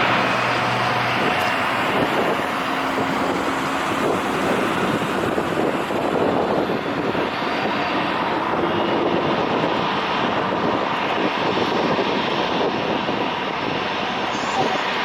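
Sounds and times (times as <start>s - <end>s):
airliner engines roaring: 0.0s - 15.0s.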